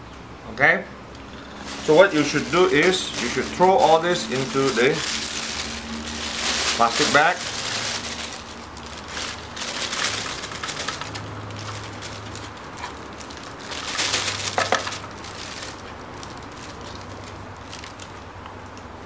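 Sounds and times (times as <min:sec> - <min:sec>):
plastic bag rustling and crinkling: 0:01.2 - 0:18.4.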